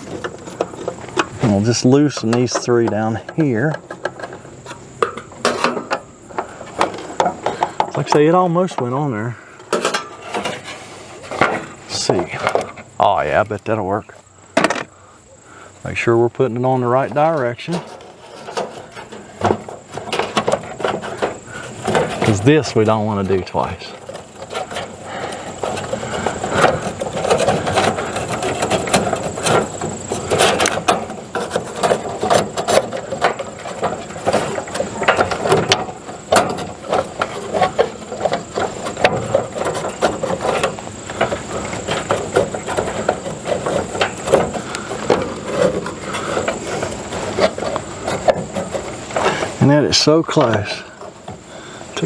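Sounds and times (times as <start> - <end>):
clicks and scrapes of blower wheel: 0.0 - 52.0.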